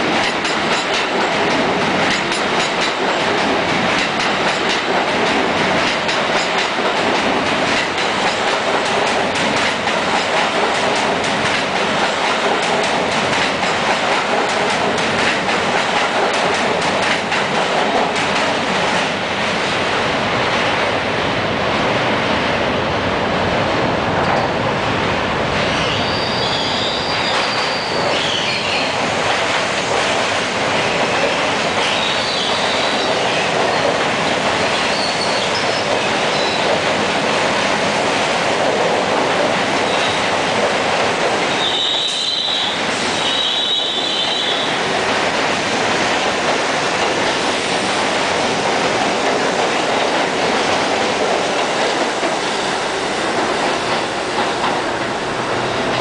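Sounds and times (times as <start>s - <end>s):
clickety-clack over rail joints: 0.0s - 21.0s, 23.4s - 56.0s
train wheels rumbling on rails: 0.0s - 56.0s.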